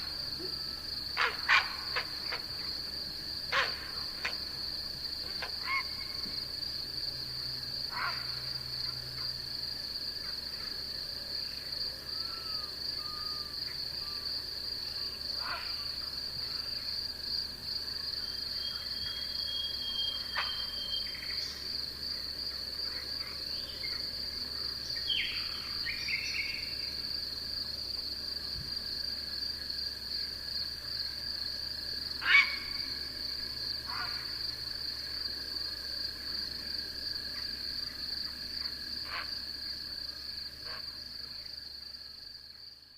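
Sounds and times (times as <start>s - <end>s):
short sharp insect calls: 0.0s - 6.7s, 7.3s - 9.4s, 10.2s - 17.1s, 17.9s - 42.9s
high-pitched insect trill: 0.0s - 42.9s
low insect drone: 0.0s - 42.9s.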